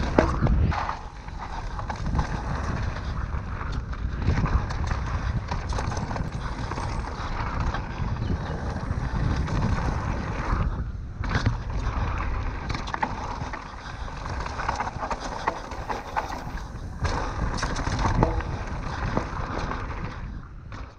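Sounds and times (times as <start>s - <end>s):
bike clicks and rattles: 0.0s - 20.9s
wind rumble on microphone: 0.0s - 20.9s.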